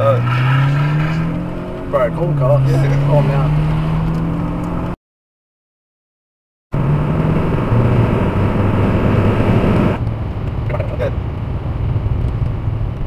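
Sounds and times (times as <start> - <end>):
car cabin road noise: 0.0 - 5.0, 6.8 - 13.0.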